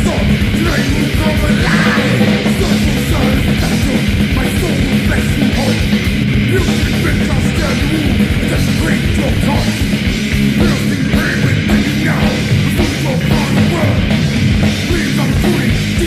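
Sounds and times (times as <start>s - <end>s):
distorted electric guitars: 0.0s - 16.0s
fast dense drumming: 0.0s - 16.0s
heavy metal music: 0.0s - 16.0s.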